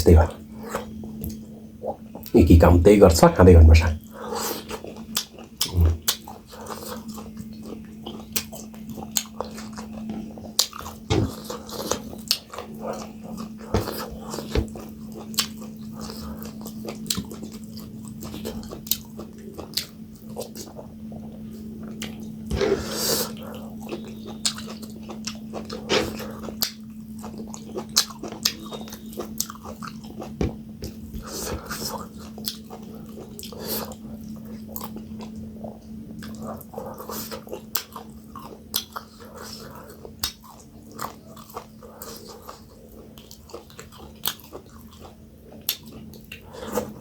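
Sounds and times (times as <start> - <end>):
chewing and mouth smacks: 4.6 - 47.0.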